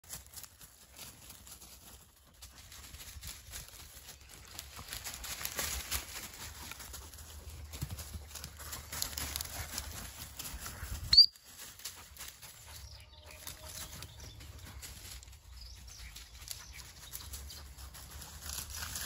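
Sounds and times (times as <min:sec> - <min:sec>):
dry twigs crackling: 0:00.0 - 0:12.3, 0:14.7 - 0:19.0
leaves rustling: 0:00.0 - 0:19.0.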